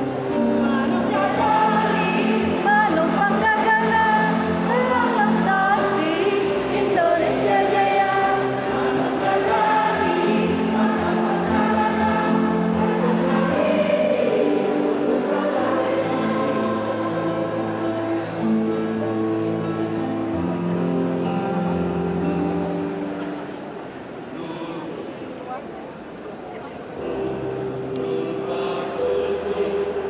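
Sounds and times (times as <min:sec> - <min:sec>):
choir singing long notes: 0:00.0 - 0:23.5, 0:27.0 - 0:30.0.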